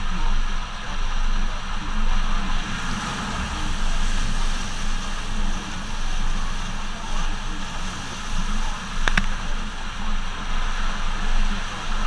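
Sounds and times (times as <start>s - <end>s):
wind buffeting microphone: 1.8s - 12.0s.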